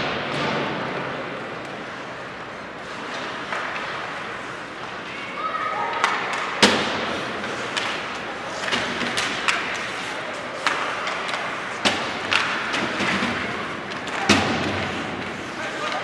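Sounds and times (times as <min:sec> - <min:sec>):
background murmur: 0:00.0 - 0:16.0.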